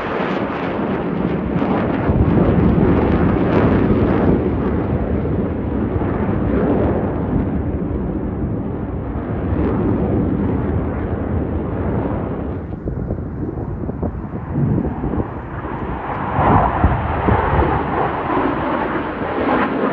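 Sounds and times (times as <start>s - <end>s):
jet roar: 0.0s - 19.9s.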